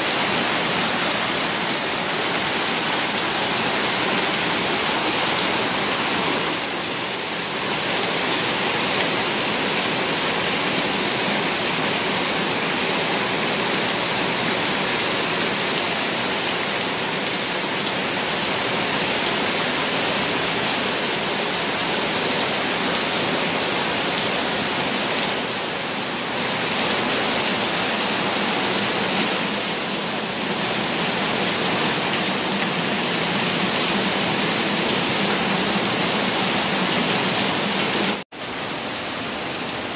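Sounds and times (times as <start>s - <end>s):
heavy rain downpour: 0.0s - 39.9s
rainwater gushing and splashing: 0.0s - 39.9s.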